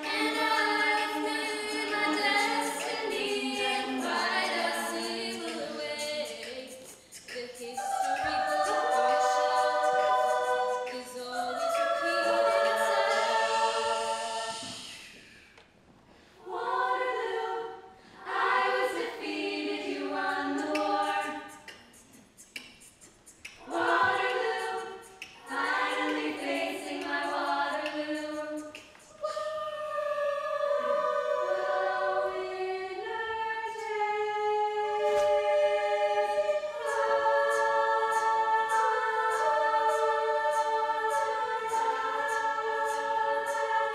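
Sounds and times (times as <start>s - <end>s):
women singing a cappella: 0.0s - 15.5s, 16.4s - 43.9s.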